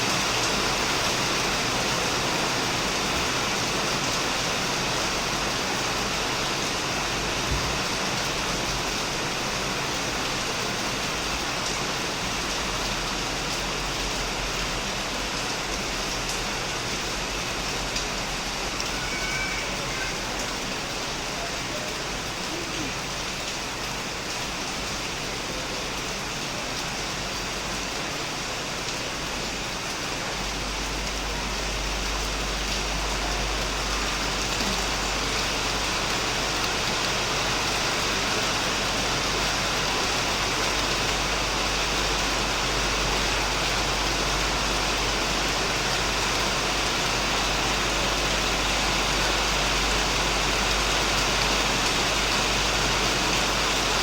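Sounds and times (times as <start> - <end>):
heavy rain on a shed roof: 0.0 - 54.0.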